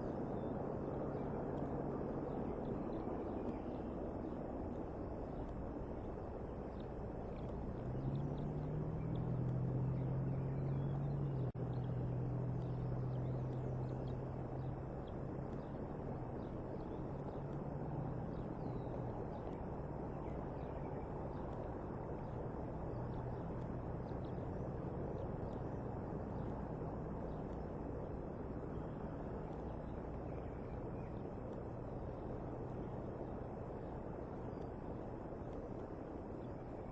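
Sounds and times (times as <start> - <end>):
low hum: 0.0 - 36.9
rushing background noise: 0.0 - 36.9.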